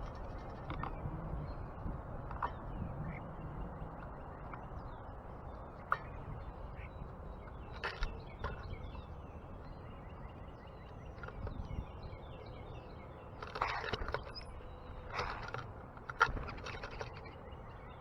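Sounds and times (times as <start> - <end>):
birds chirping and twittering: 0.0 - 18.0.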